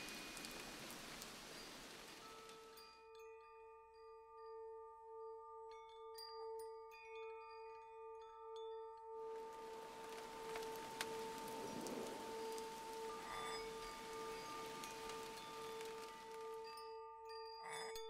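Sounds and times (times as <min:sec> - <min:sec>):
soft ambient music with chimes: 0:00.0 - 0:18.0.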